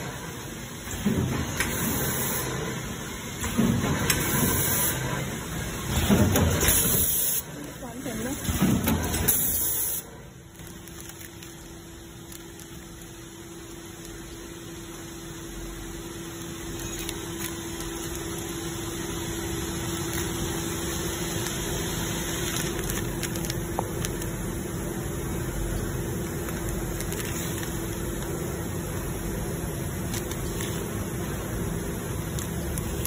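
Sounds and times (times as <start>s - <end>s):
packing machine humming: 0.0s - 33.0s.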